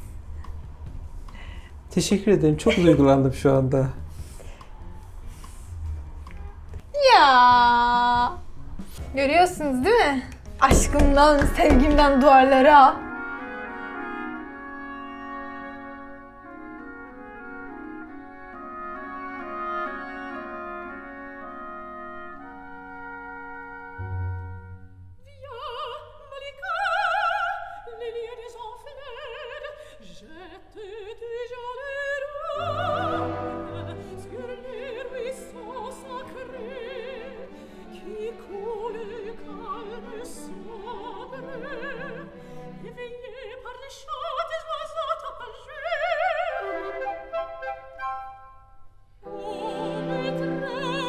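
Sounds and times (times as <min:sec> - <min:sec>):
orchestra: 0:00.0 - 0:51.0.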